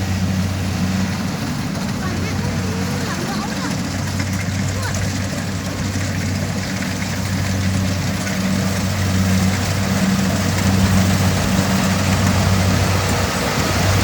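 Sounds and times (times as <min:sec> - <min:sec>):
combine harvester engine drone: 0:00.0 - 0:14.0
machinery rushing noise: 0:00.0 - 0:14.0.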